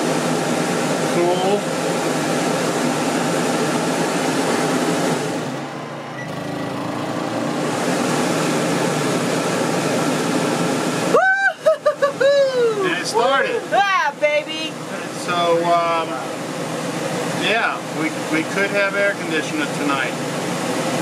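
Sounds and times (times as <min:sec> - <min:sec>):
air conditioner hum and rush: 0:00.0 - 0:06.0, 0:06.8 - 0:21.0
compressor kicking on: 0:00.0 - 0:11.2, 0:12.8 - 0:21.0.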